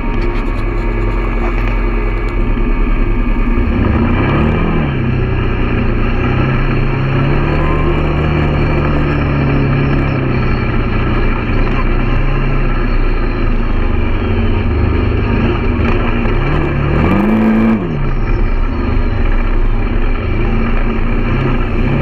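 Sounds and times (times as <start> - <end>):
quad bike engine revving: 0.0 - 22.0.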